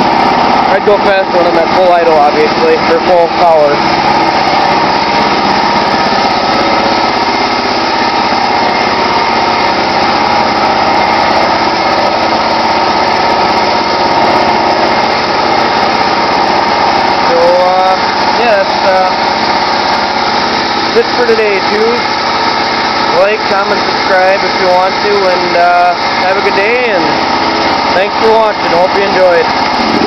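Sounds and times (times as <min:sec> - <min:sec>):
lawn tractor engine running: 0:00.0 - 0:30.0.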